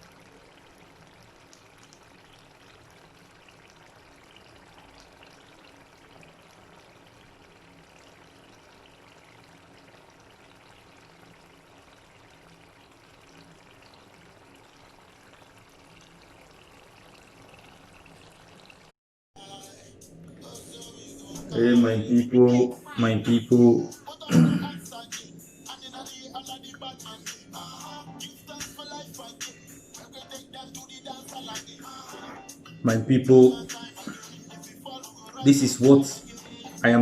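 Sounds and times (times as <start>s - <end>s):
pot boiling with bubbling hiss: 0.0s - 37.0s.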